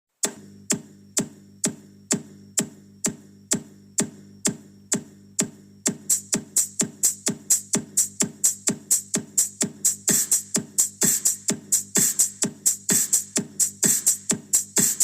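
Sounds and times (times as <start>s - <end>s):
drum machine hits: 0.2s - 15.0s.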